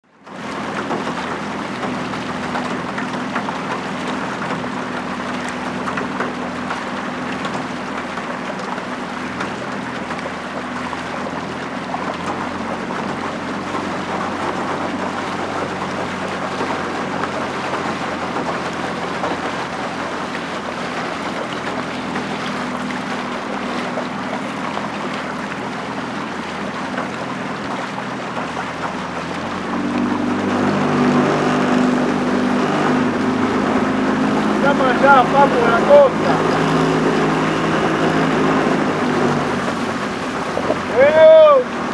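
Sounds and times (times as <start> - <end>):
motorboat engine running: 0.0 - 41.9
water rushing past hull: 0.0 - 41.9.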